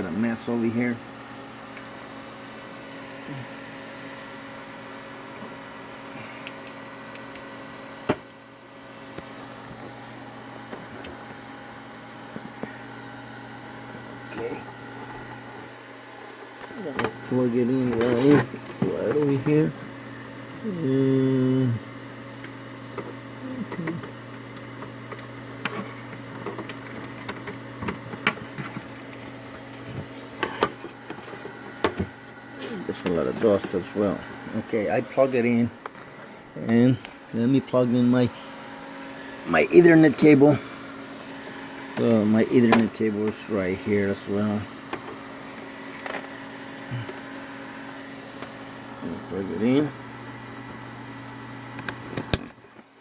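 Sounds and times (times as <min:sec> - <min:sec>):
computer fan humming: 0:00.0 - 0:53.0.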